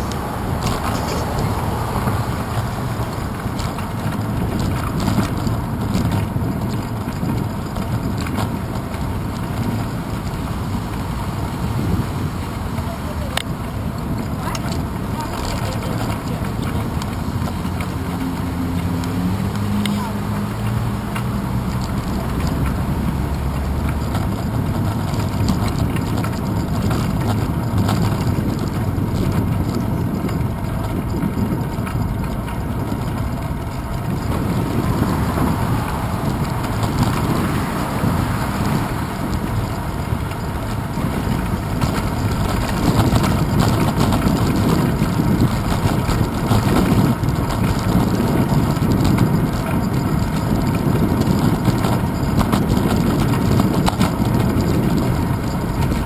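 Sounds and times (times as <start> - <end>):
low road rumble: 0.0 - 56.0
rushing wind noise: 0.0 - 56.0.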